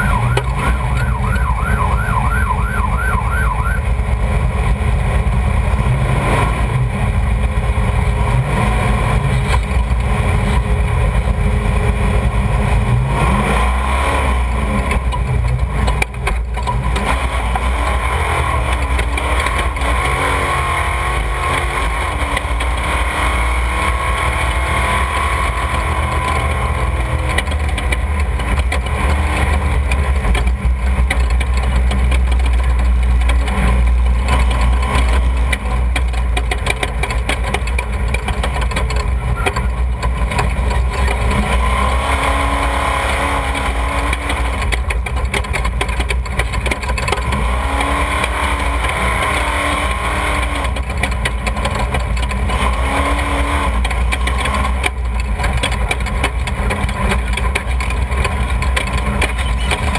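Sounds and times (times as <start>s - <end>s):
race vehicle engines revving: 0.0s - 59.9s.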